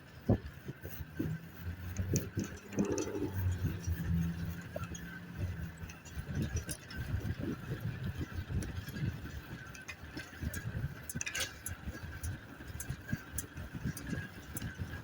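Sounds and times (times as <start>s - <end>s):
engine running low: 0.0s - 15.0s.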